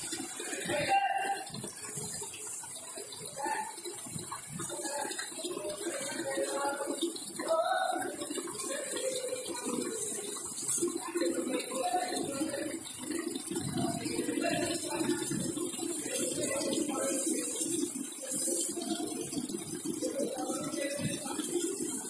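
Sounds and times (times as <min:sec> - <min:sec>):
water sloshing in a bucket: 0:00.0 - 0:22.0.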